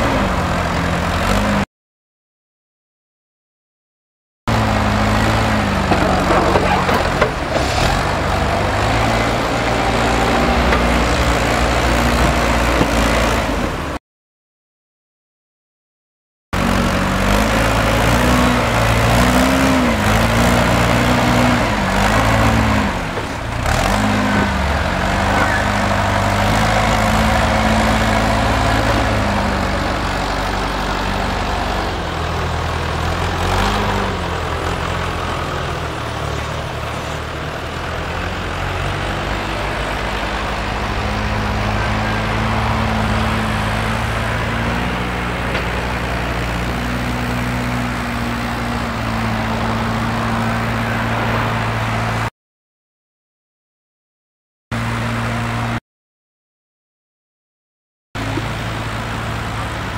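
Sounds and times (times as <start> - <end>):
diesel engines running under load: 0.0 - 1.6, 4.5 - 14.0, 16.6 - 52.3, 54.8 - 55.8, 58.2 - 59.9.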